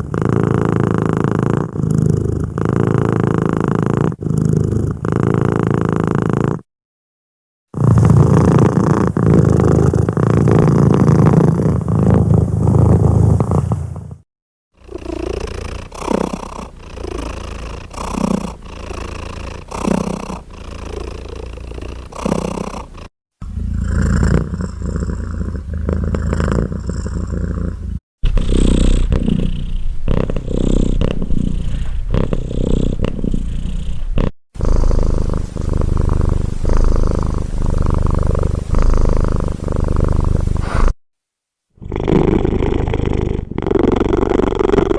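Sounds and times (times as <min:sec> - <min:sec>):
cat purring: 0:00.0 - 0:06.7, 0:07.8 - 0:41.0, 0:41.8 - 0:44.9.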